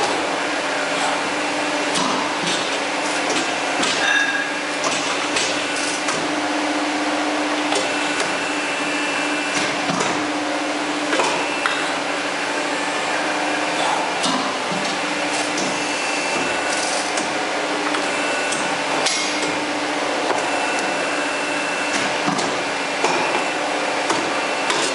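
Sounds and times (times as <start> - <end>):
machine mechanical hum: 0.0 - 24.9.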